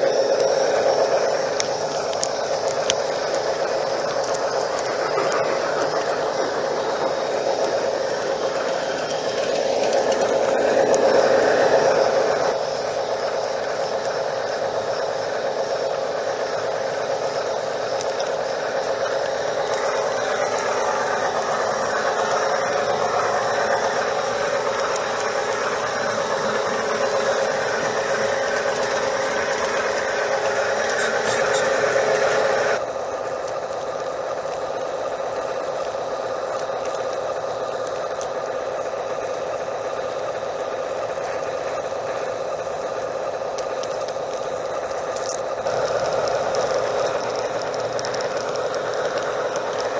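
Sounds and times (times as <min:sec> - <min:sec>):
model train wheels rattling: 0:00.0 - 0:49.9.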